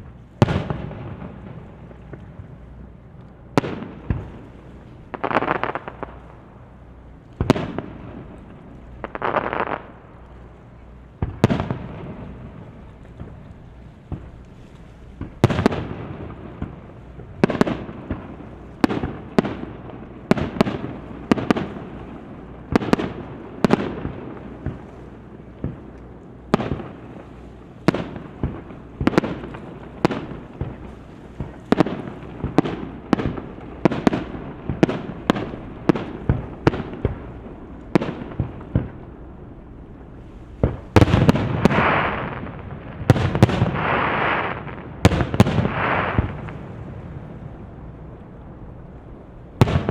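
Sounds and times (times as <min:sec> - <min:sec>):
fireworks bangs: 0:00.0 - 0:02.5, 0:03.5 - 0:06.5, 0:07.4 - 0:10.0, 0:11.2 - 0:13.4, 0:15.2 - 0:25.0, 0:27.8 - 0:48.1, 0:49.4 - 0:49.9.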